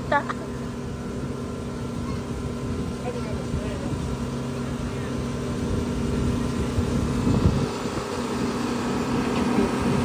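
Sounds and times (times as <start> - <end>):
machine droning: 0.0 - 10.0.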